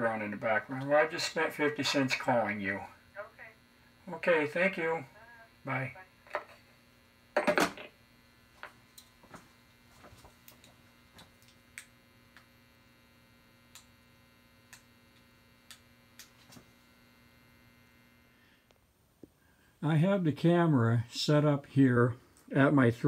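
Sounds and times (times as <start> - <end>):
faint electrical mains hum: 0.0 - 23.0.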